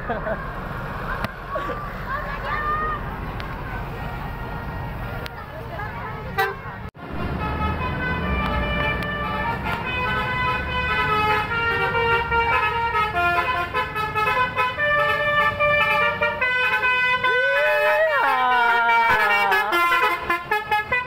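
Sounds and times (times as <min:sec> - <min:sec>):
bus rumble: 0:00.0 - 0:21.0
traffic: 0:00.0 - 0:21.0.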